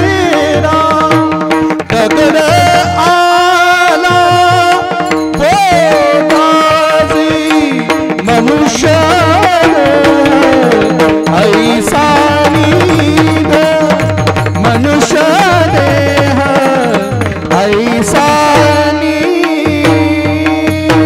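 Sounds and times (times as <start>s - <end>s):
man singing devotional song: 0.0s - 21.0s.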